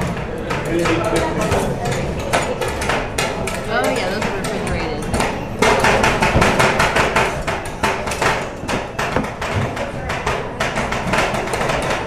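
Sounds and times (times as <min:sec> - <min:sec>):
metal spatulas clacking on steel plate: 0:00.0 - 0:12.0.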